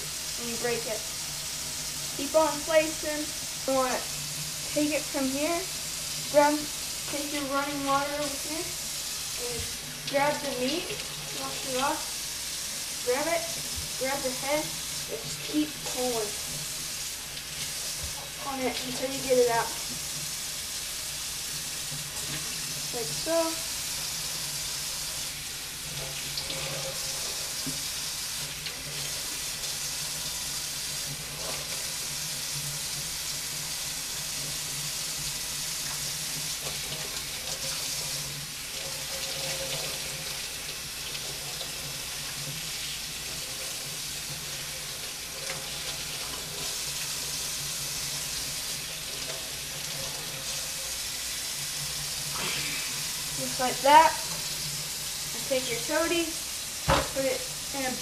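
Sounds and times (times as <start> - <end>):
faucet running into metal sink: 0.1 - 58.0.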